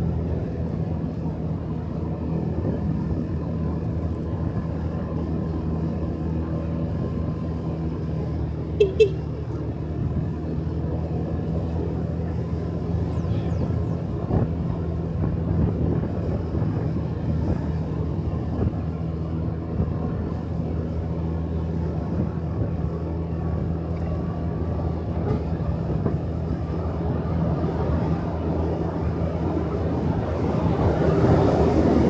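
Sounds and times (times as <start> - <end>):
motorcycle engine running: 0.0 - 27.1
road and wind noise: 0.0 - 32.0.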